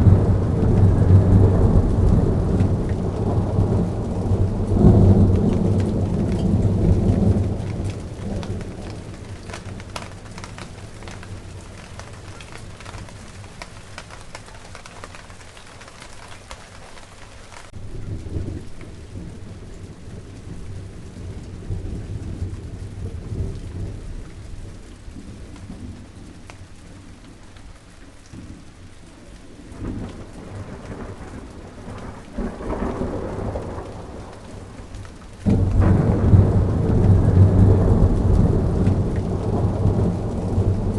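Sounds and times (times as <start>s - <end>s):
rolling thunder: 0.0s - 15.6s, 17.7s - 27.4s, 29.5s - 40.9s
rain drops tapping: 0.0s - 40.9s.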